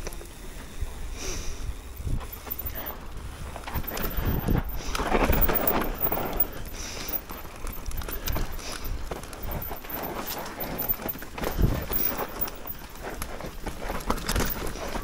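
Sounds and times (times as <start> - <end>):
bike tyres crunching on dirt: 0.0 - 15.0
bike rattling and knocking: 1.9 - 15.0.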